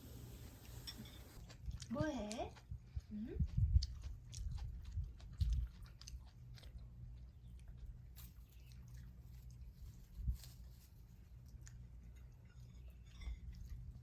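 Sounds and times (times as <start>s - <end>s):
chewing crisp food: 0.6s - 14.0s.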